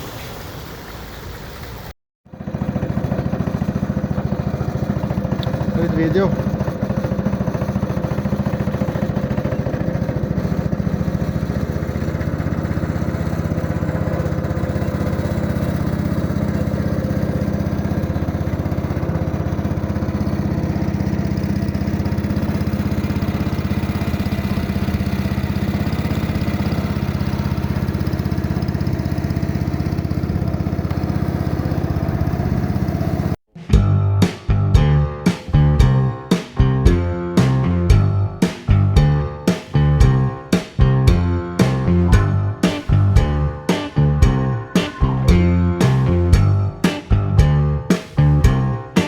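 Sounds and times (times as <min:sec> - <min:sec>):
engine running steadily: 0:02.3 - 0:49.0.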